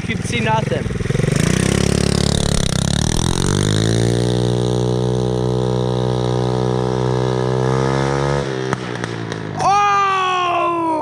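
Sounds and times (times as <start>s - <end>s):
atv engine revving: 0.0s - 9.6s.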